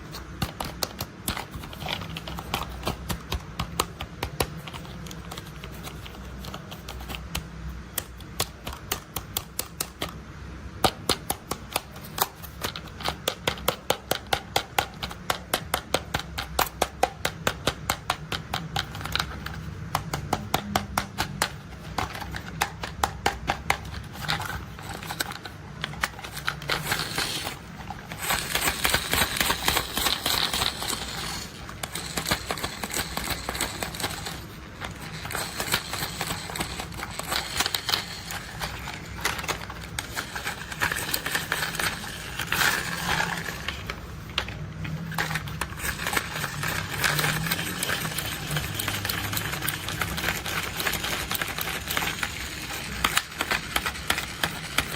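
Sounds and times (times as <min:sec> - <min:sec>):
plastic toy vehicles clicking and rattling: 0:00.0 - 0:10.2, 0:10.8 - 0:54.9.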